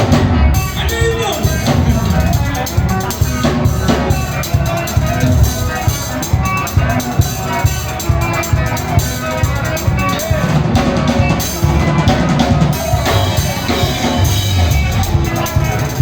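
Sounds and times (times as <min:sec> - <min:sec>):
drum kit beat: 0:00.0 - 0:16.0
live band music: 0:00.0 - 0:16.0.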